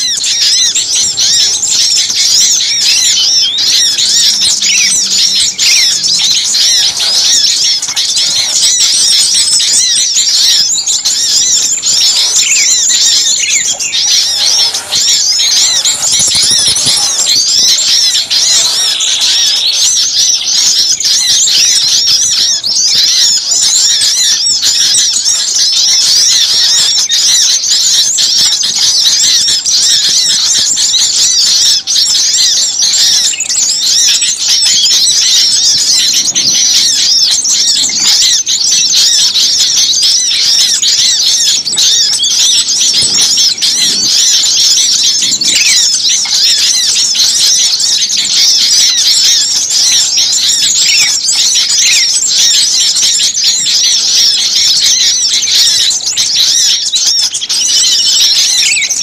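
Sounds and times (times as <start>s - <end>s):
small birds chirping in chorus: 0.0s - 59.0s.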